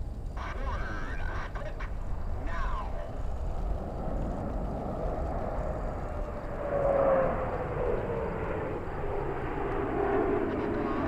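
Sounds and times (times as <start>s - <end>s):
jet passing overhead: 0.0s - 11.0s.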